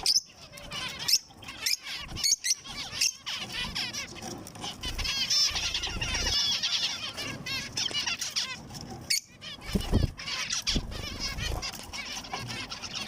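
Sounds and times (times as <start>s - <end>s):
finches chirping: 0.0s - 13.0s
rapidly repeated arched bird notes: 0.0s - 13.0s.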